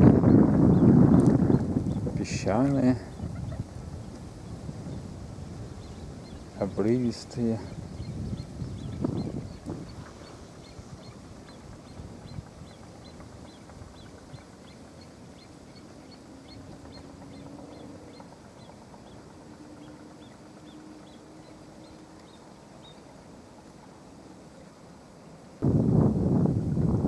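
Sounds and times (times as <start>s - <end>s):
low wind-like rumble: 0.0s - 27.0s.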